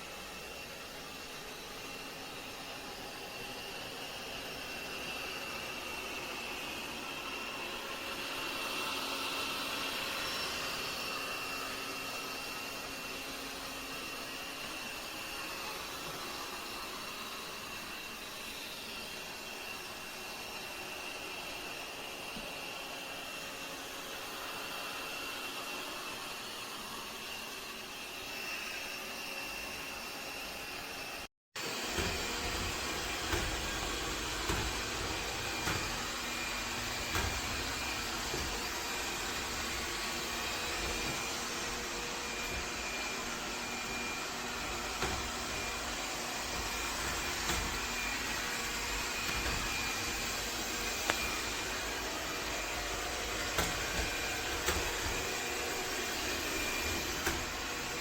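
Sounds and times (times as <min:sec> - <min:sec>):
robot vacuum humming: 0:00.0 - 0:58.0.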